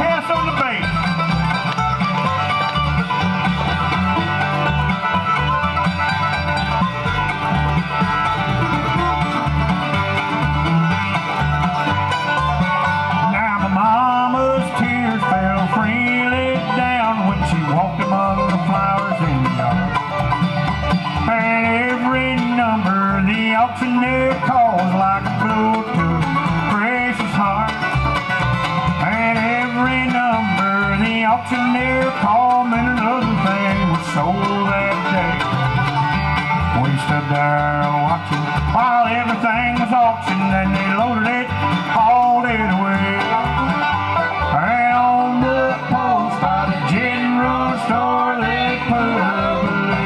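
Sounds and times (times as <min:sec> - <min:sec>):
bluegrass band playing: 0:00.0 - 0:50.0.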